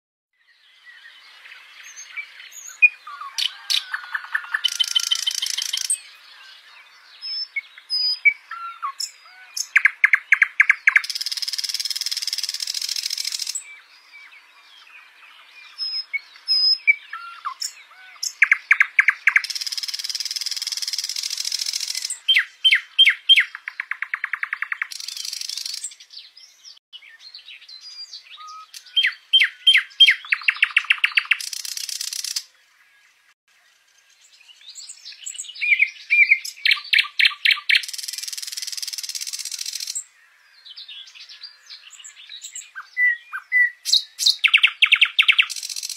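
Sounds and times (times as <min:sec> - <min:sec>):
nightingale singing: 0:00.4 - 0:45.9.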